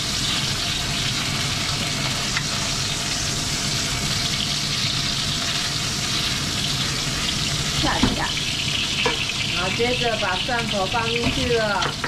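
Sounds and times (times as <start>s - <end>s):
chicken wings sizzling in oil: 0.0s - 12.0s.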